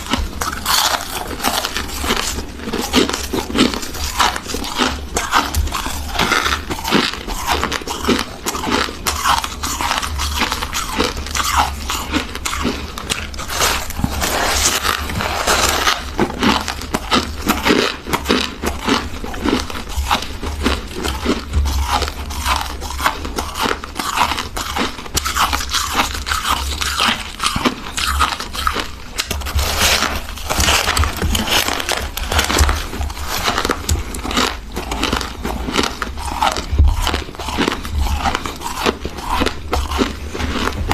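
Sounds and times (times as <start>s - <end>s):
crunchy chewing of frost: 0.0s - 40.9s.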